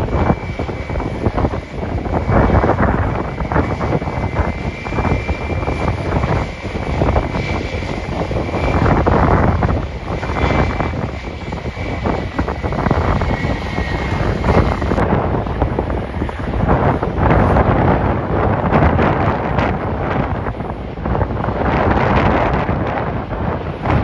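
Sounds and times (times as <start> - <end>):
jet engines whining: 0.0 - 24.0
wind buffeting microphone: 0.0 - 24.0.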